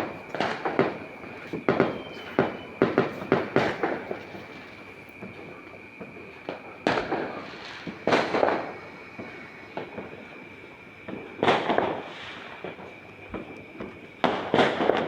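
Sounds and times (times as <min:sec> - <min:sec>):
loud firework bangs: 0:00.0 - 0:10.4, 0:11.0 - 0:15.0
small firework pops: 0:00.0 - 0:15.0.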